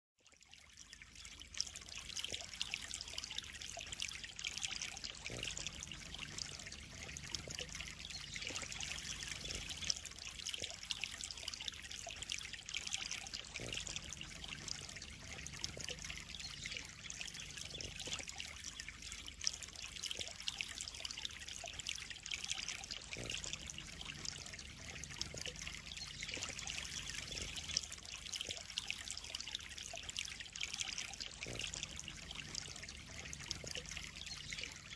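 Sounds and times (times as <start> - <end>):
water trickling into a pond: 0.2 - 34.9.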